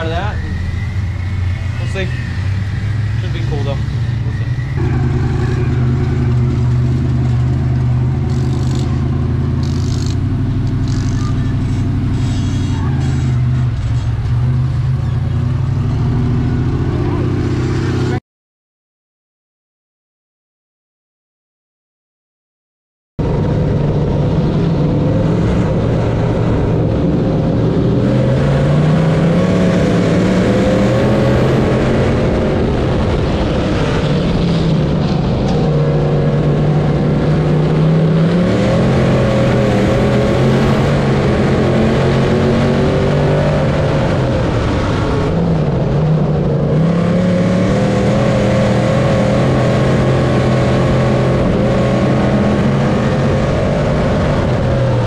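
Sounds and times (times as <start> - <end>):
race car engine under load: 0.0 - 18.2, 23.2 - 55.0.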